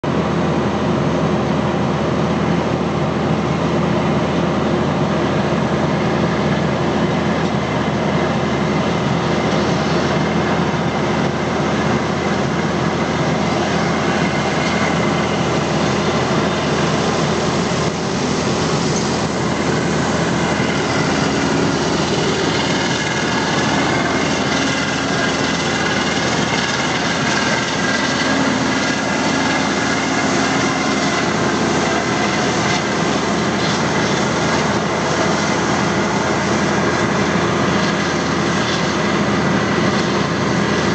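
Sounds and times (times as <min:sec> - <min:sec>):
combine harvester and tractor drone: 0:00.0 - 0:40.9.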